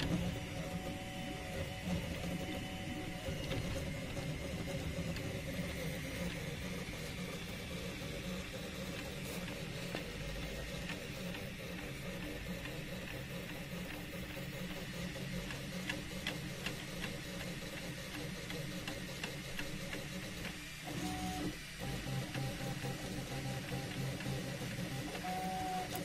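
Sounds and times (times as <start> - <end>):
stepper motors humming: 0.0 - 26.0.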